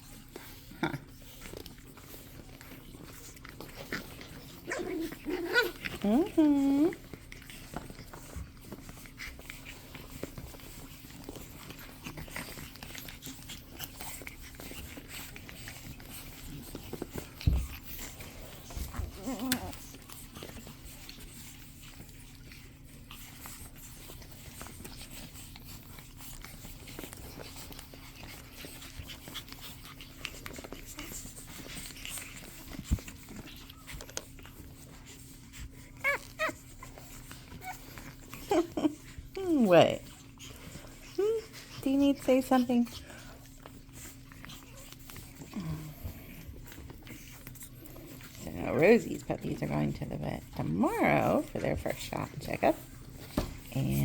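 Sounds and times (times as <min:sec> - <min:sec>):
quiet dog sounds: 0:00.0 - 0:54.0
rustling: 0:00.0 - 0:54.0.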